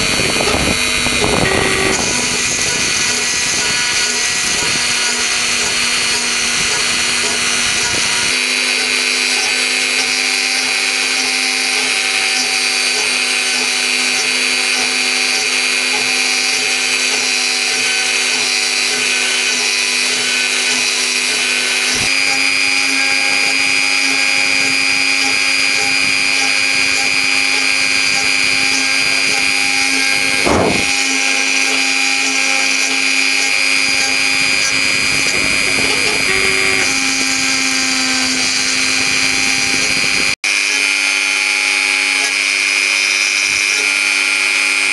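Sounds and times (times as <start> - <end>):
motors humming in pulses: 0.0 - 44.9
router spindle high whine: 0.0 - 44.9.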